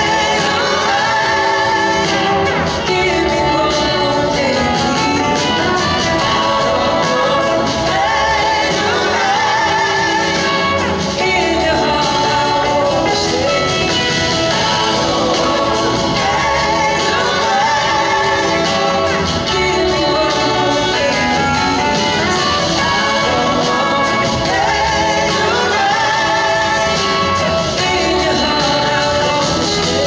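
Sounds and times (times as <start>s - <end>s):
live rock band playing: 0.0s - 30.0s
person singing: 0.0s - 30.0s.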